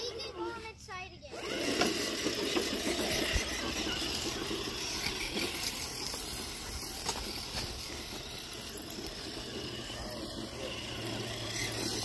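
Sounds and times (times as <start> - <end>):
rc truck motor hissing through grass: 0.0 - 12.0.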